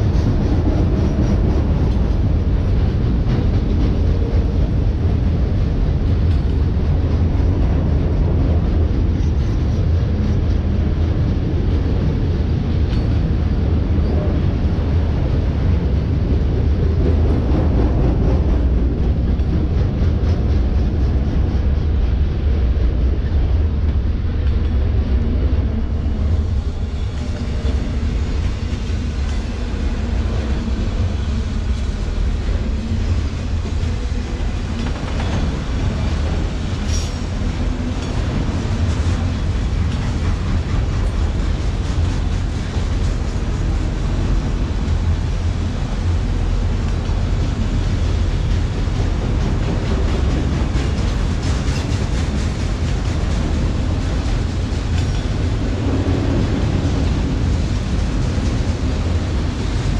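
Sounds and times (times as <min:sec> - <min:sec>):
freight train wheels rumbling: 0:00.0 - 0:59.9
rail clicks: 0:00.0 - 0:59.9.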